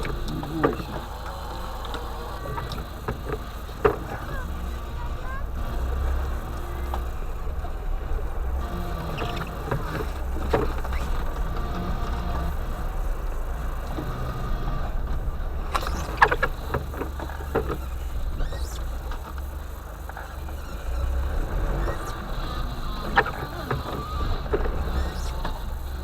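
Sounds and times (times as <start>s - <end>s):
van engine rumbling: 0.0s - 26.0s.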